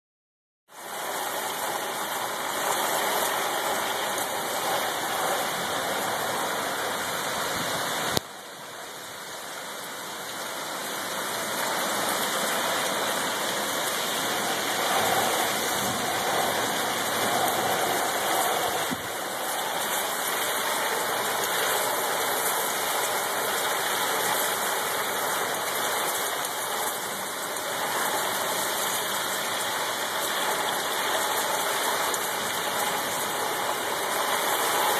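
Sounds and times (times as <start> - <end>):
heavy rain pouring: 0.7 - 34.9.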